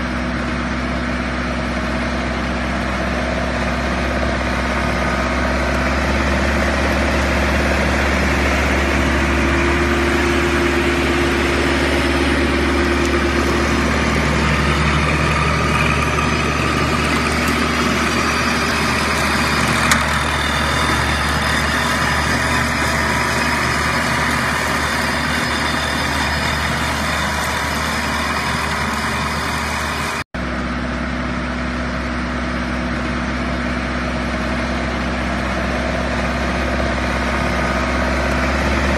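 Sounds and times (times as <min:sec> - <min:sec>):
flail mower shredding grass: 0:00.0 - 0:30.2, 0:32.8 - 0:38.9
tractor engine running: 0:00.0 - 0:38.9.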